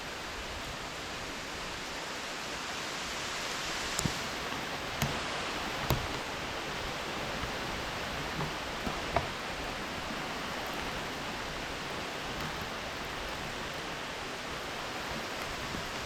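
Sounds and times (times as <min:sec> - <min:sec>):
storm wind in trees: 0:00.0 - 0:16.0.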